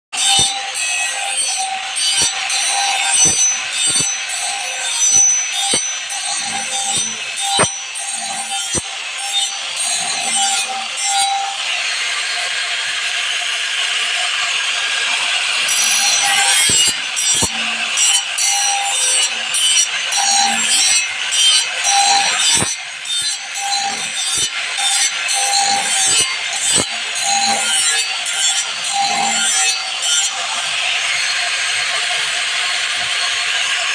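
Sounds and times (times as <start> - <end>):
saw blade ringing: 0.2 - 11.8, 15.6 - 32.2
file scraping on steel: 0.2 - 13.2, 13.9 - 33.9.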